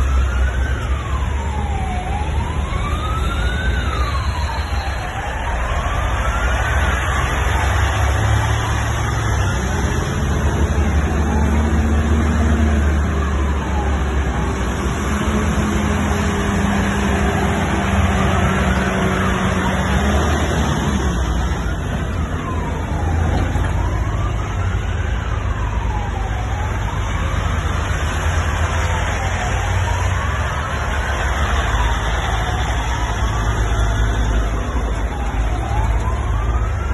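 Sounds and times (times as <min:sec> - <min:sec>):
heavy trucks driving past: 0:00.0 - 0:36.9
siren wailing: 0:00.0 - 0:36.9.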